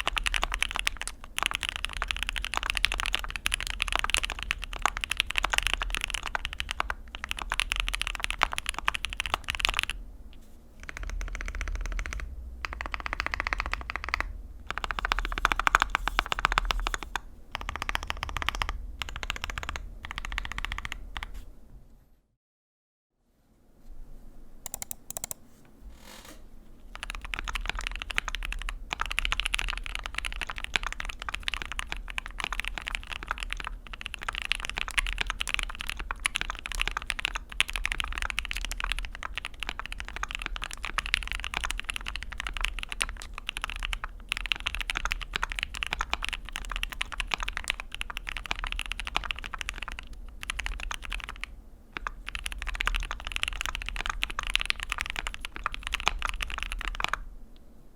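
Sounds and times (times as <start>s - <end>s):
mechanical keyboard clicks: 0.0s - 9.9s, 10.8s - 21.3s, 24.7s - 25.4s, 26.9s - 57.2s
fast typing on mechanical keyboard: 0.0s - 10.0s, 10.8s - 21.3s, 24.7s - 25.4s, 26.8s - 57.3s.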